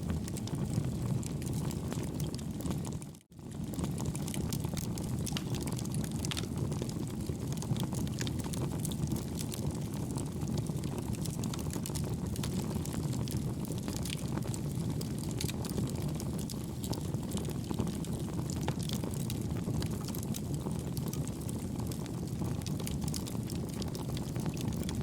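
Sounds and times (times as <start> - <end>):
burning wood crackling: 0.1 - 25.0.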